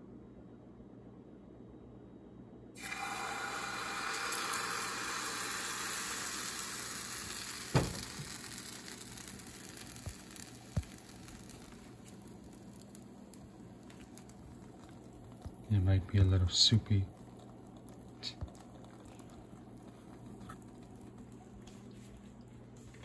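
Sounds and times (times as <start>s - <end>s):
batter sizzling in frying pan: 2.8s - 22.2s.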